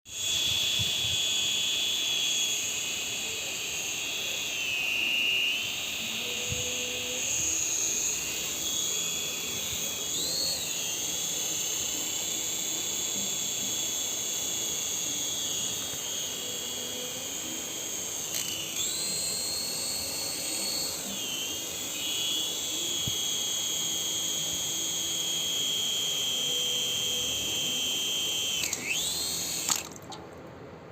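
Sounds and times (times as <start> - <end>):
small electric motor whining: 0.1 - 30.0.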